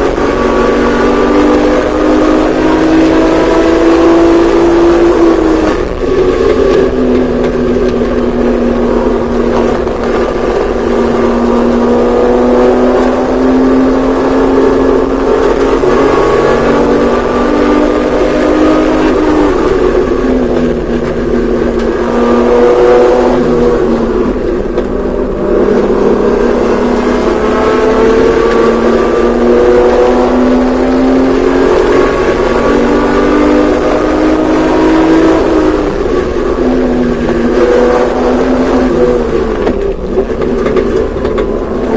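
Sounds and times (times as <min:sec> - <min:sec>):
racing car engine accelerating: 0:00.0 - 0:41.9.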